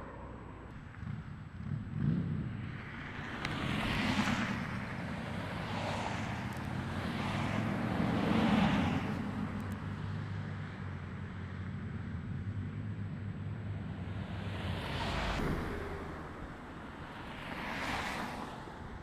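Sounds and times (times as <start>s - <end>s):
traffic rumble: 0.0s - 19.0s
vehicles passing: 0.0s - 19.0s.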